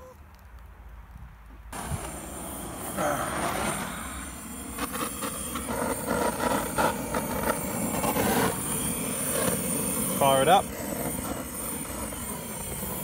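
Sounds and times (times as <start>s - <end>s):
blowtorch hissing: 1.7s - 13.0s.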